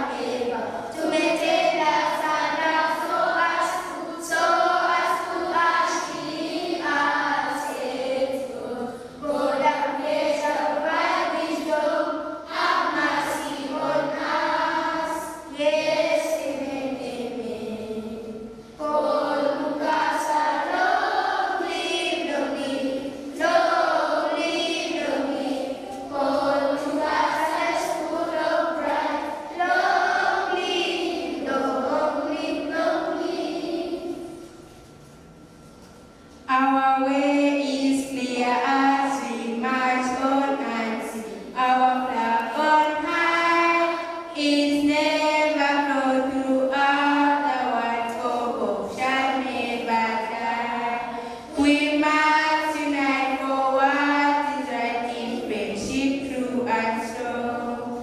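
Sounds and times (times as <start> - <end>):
children singing in chorus: 0.0 - 34.7, 40.0 - 58.0.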